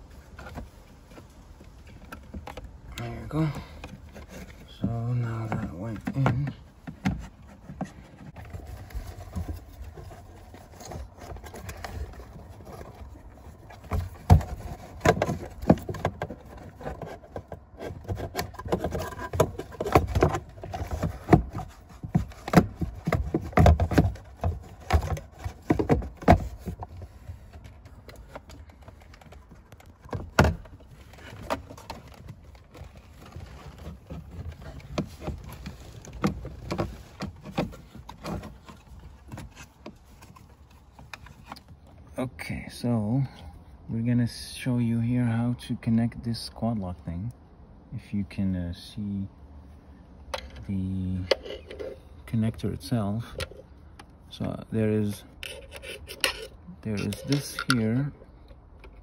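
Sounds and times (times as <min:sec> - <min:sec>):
handling clicks taps and knocks: 0:00.3 - 0:42.0, 0:50.2 - 0:59.0.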